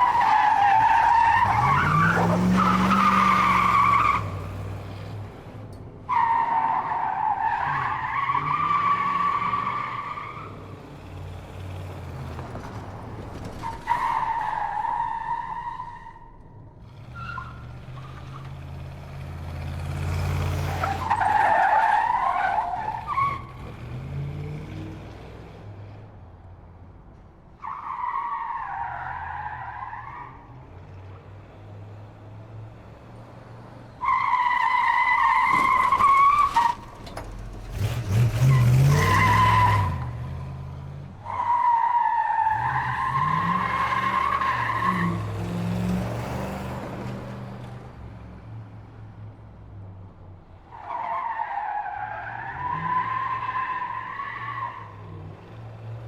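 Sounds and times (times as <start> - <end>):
car tyres squealing: 0.0 - 4.8, 6.1 - 24.9, 27.6 - 31.2, 33.8 - 48.0, 50.5 - 56.0.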